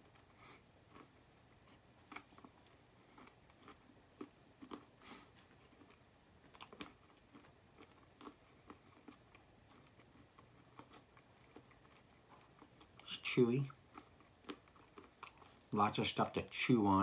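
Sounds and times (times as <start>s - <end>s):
faint chewing with soft crunches: 0.0s - 17.0s.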